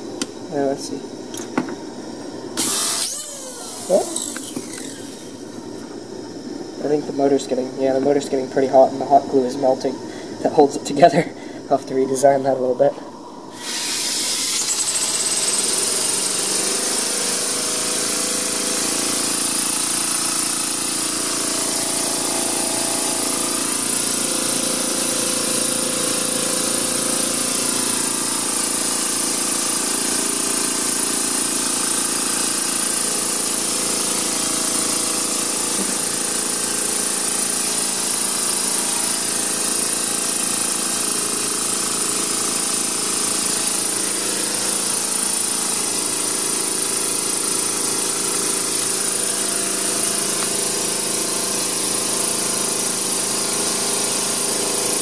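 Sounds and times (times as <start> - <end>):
steam engine whirring and whining: 2.6 - 6.8, 13.4 - 55.0.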